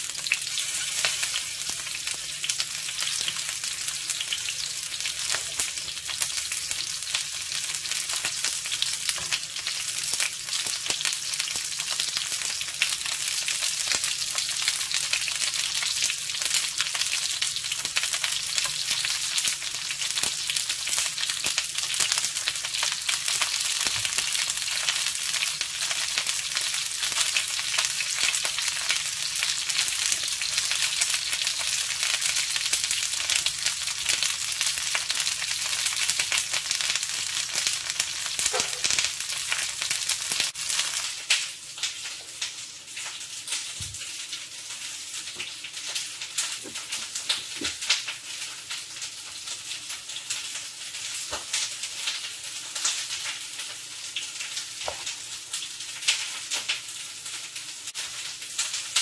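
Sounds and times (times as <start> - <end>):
vegetables sizzling in a frying pan: 0.0 - 59.0.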